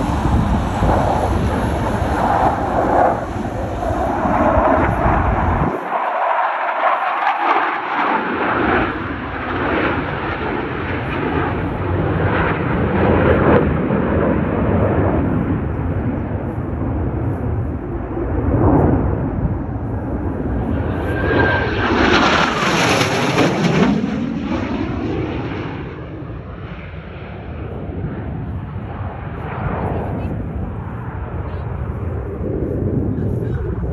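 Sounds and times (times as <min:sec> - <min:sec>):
jet engine noise: 0:00.0 - 0:33.9
jet passing with a whoosh: 0:00.0 - 0:33.9.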